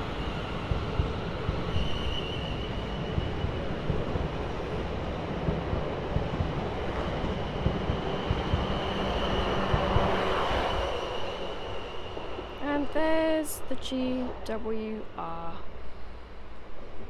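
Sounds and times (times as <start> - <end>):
train running rumble: 0.0 - 15.1.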